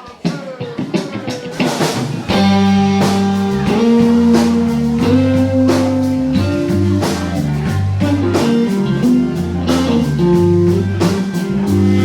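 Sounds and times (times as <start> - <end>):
blues band playing: 0.0 - 12.0
electric guitar: 0.0 - 12.0
drum hits: 0.2 - 11.8
held bass notes: 1.4 - 12.0.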